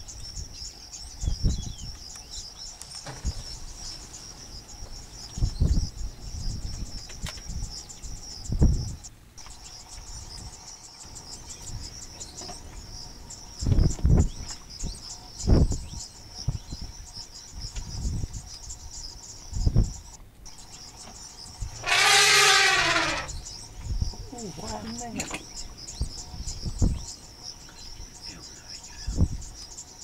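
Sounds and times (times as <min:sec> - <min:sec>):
insects chirping trill: 0:00.0 - 0:30.0.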